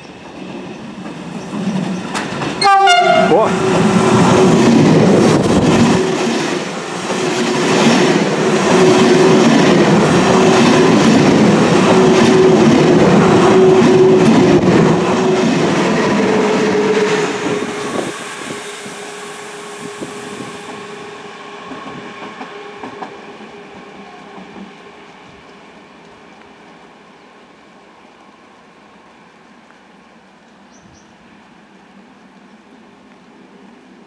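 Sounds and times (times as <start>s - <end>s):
passenger train passing: 0.0s - 34.0s.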